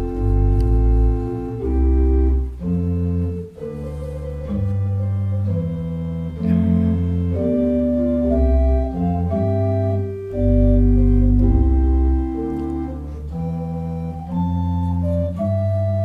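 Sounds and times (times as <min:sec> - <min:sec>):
church organ chords: 0:00.0 - 0:16.0.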